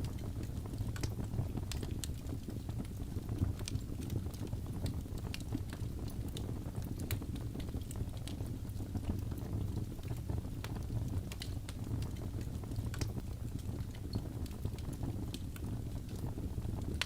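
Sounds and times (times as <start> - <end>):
logs burning in fireplace: 0.0 - 17.0.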